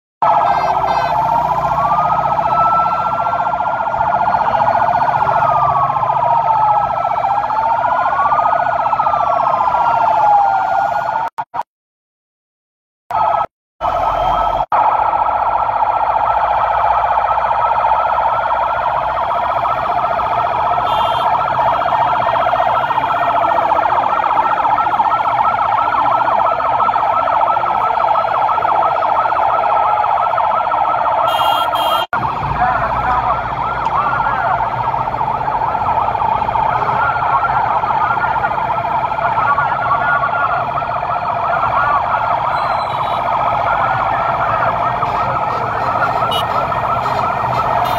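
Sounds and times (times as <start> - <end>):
vehicle sirens wailing: 0.2 - 11.7, 13.1 - 47.9.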